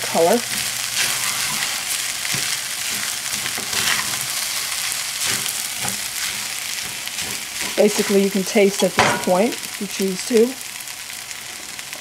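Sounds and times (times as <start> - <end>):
fried rice sizzling in skillet: 0.0 - 12.0
spatula scraping pan: 0.1 - 9.8.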